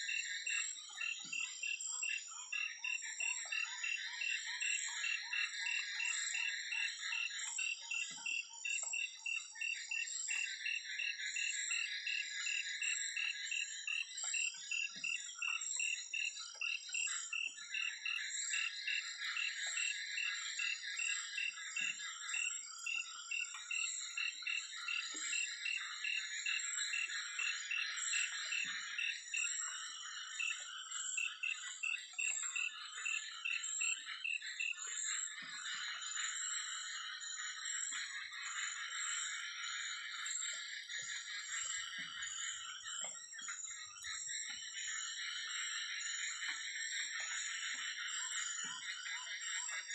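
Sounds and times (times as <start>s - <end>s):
frog pulsed call: 0.0s - 49.9s.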